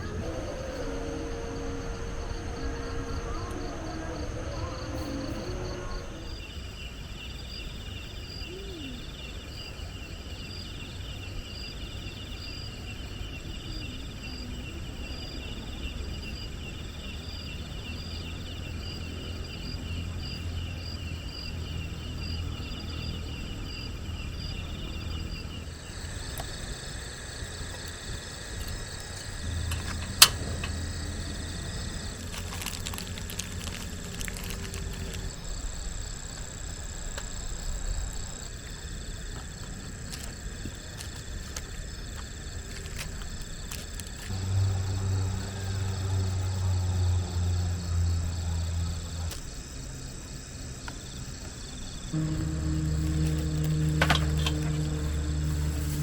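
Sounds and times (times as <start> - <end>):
high insect drone: 0.0 - 56.0
insects chirping in trills: 0.0 - 56.0.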